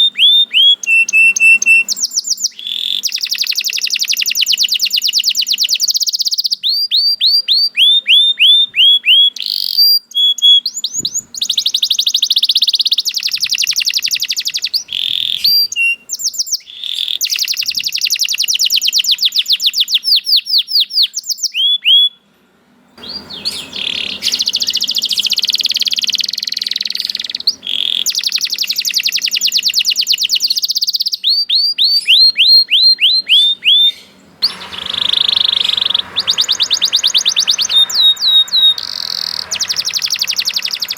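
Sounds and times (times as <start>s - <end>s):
canary singing: 0.0s - 22.3s, 23.0s - 40.9s
faint background hiss: 0.0s - 40.9s.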